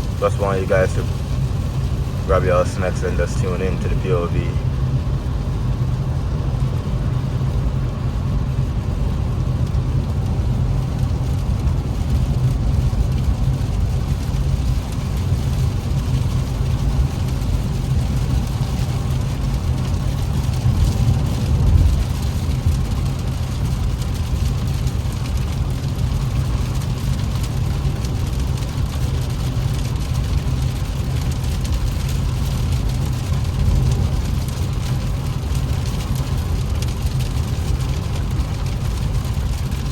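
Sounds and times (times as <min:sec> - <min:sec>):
car engine and tyres droning: 0:00.0 - 0:39.9
rain hissing on a car: 0:00.0 - 0:39.9.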